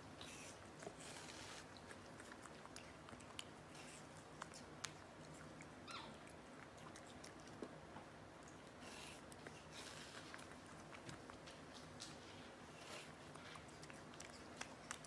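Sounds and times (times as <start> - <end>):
monkey chewing wet smacking: 0.2 - 15.0.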